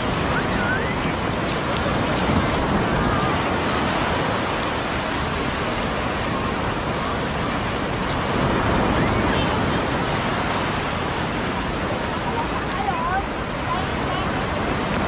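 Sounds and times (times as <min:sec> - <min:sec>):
sea surf breaking: 0:00.0 - 0:15.0.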